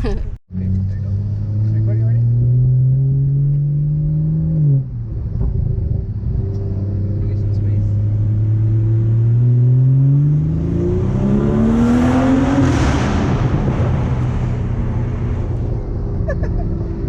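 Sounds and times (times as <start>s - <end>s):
road noise: 0.0s - 17.0s
car engine accelerating: 0.5s - 17.0s.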